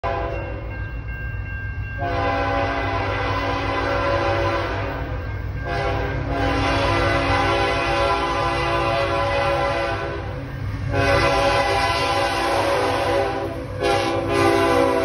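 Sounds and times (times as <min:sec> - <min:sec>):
locomotive air horn blasts: 0:00.0 - 0:00.4, 0:02.0 - 0:15.0.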